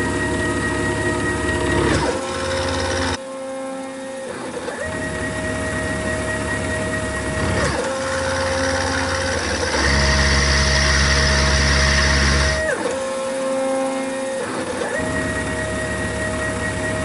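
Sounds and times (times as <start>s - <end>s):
milling machine motor whine: 0.0s - 17.0s.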